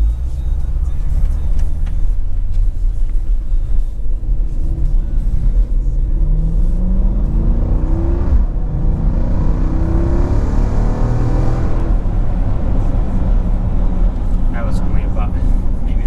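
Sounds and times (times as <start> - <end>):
car exhaust rumble accelerating: 0.0 - 16.0.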